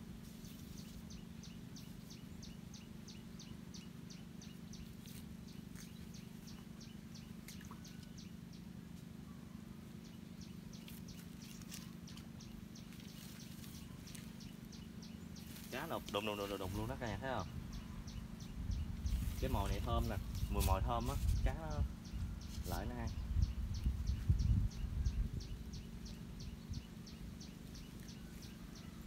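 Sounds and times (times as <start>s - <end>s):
steady low hum: 0.0s - 29.0s
bird chirping rapidly: 0.7s - 8.7s, 10.0s - 29.0s.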